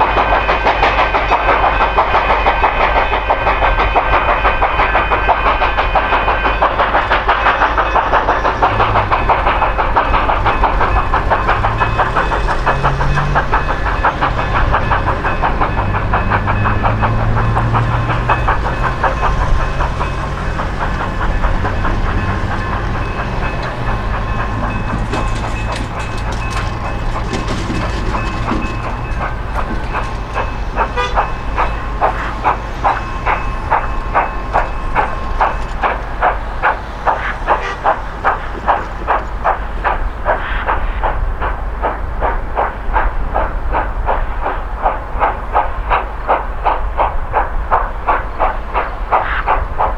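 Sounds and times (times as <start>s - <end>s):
steam locomotive chuffing: 0.0s - 49.9s.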